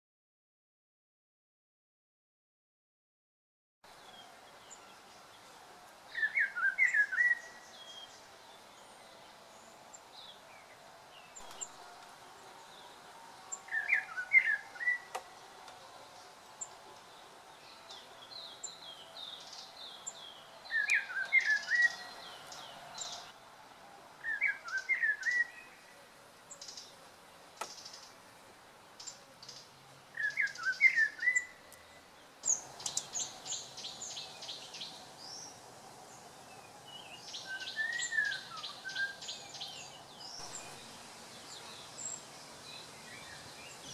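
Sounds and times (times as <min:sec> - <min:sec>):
small birds chirping: 0:03.9 - 0:23.4, 0:24.2 - 0:43.9.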